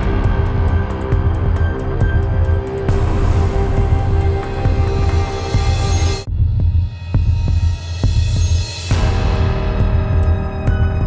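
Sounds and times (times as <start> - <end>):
pulsing bass: 0.0 - 11.0
ticking beat: 0.0 - 11.0.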